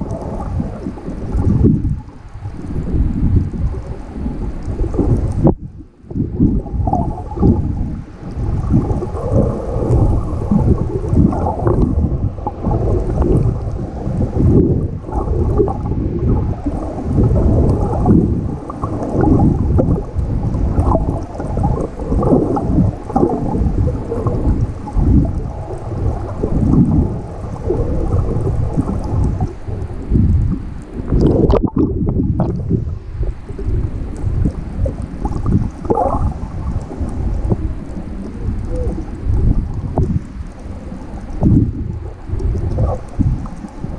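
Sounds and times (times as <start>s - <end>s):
muffled underwater water churning: 0.0s - 43.9s.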